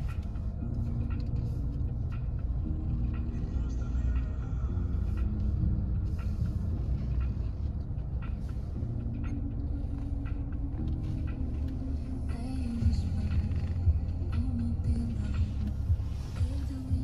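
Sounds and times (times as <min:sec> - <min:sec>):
car cabin engine and tyre rumble: 0:00.0 - 0:17.0.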